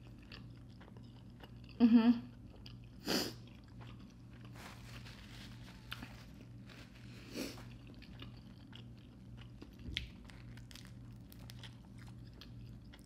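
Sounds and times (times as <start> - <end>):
close chewing and mouth sounds: 0.0 - 13.0.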